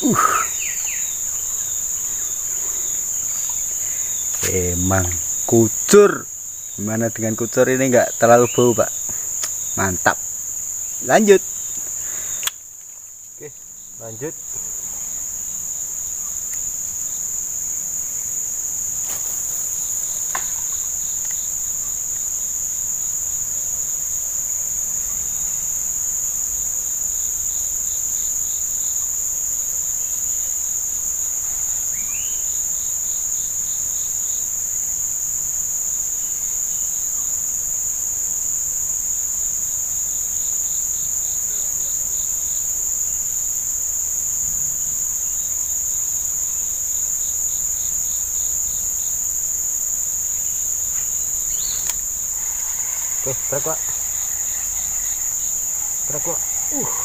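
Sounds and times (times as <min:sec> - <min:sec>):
rapid pulsed insect chirps: 0:00.0 - 0:57.0
shrill insect chorus: 0:00.0 - 0:57.0.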